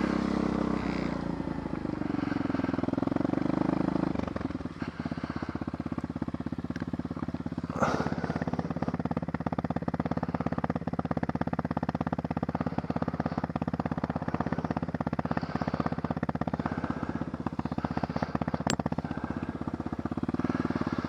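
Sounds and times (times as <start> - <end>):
dirt bike engine idling: 0.0 - 21.0.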